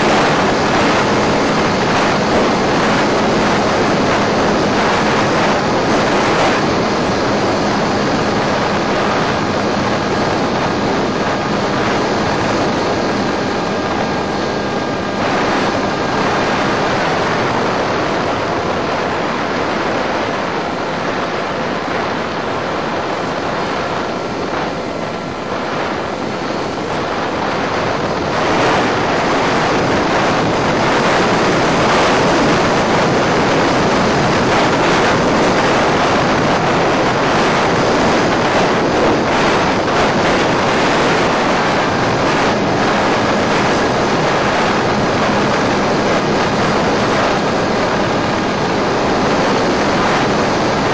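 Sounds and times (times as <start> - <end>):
rushing wind: 0.0 - 50.9.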